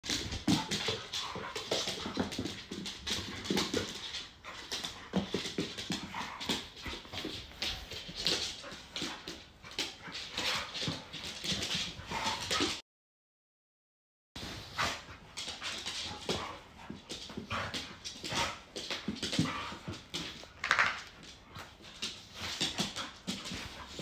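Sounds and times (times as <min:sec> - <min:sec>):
claws scrabbling on laminate floor: 0:00.1 - 0:12.8, 0:14.8 - 0:24.0
dogs play-fighting noises: 0:00.1 - 0:12.8, 0:14.4 - 0:24.0.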